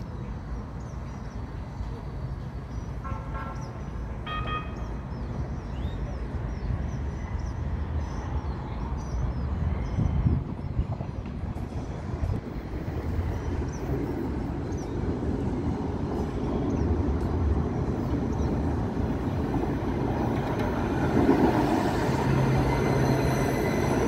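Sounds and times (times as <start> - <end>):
light-rail train rumbling: 0.0 - 24.0.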